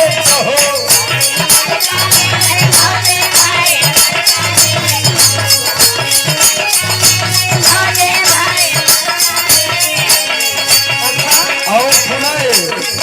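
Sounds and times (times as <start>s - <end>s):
jingling percussion: 0.0s - 13.0s.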